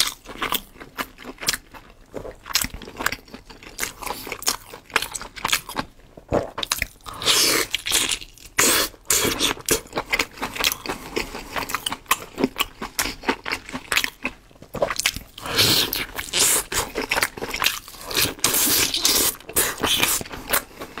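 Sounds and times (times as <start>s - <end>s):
person chewing and smacking: 0.0s - 21.0s.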